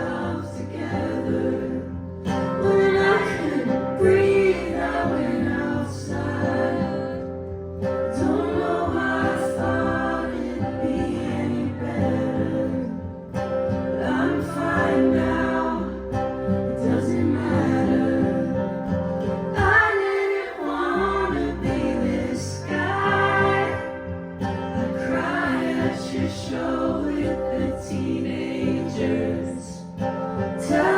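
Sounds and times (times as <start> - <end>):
acoustic guitar: 0.0 - 30.9
women singing in harmony: 0.0 - 30.9.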